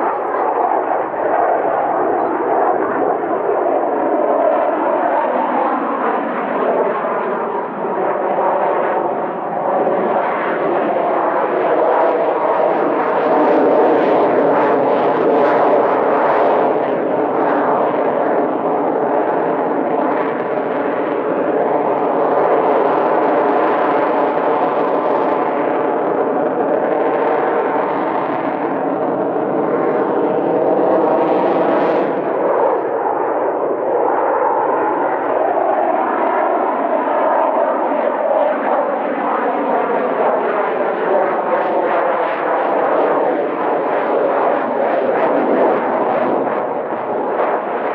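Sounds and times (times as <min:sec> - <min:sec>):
jet aircraft engine roar: 0:00.0 - 0:47.9.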